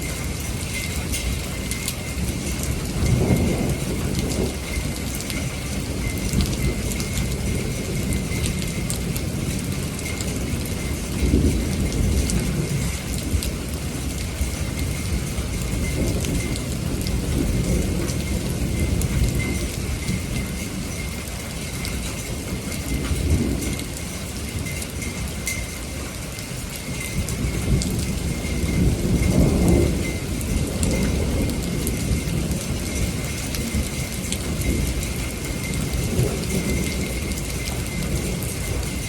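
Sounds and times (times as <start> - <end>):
thunder rumbling: 0.0 - 25.5, 26.7 - 39.0
steady rain: 0.0 - 39.0.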